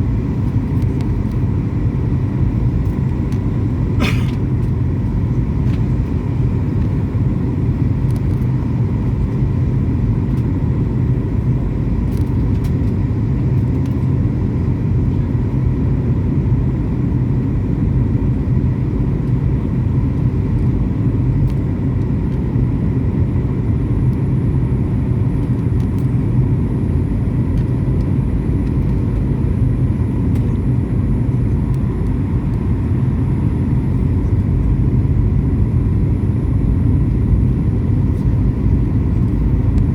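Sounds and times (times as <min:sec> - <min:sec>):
airliner cabin rumble: 0:00.0 - 0:39.9
faint steady whine: 0:00.0 - 0:39.9.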